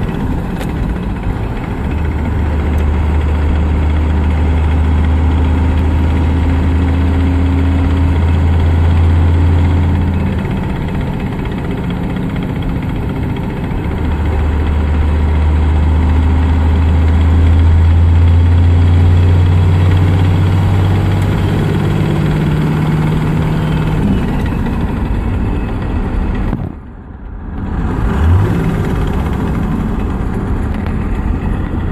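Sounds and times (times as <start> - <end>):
transmission ticking: 0.0 - 31.9
truck engine idling: 0.0 - 31.9.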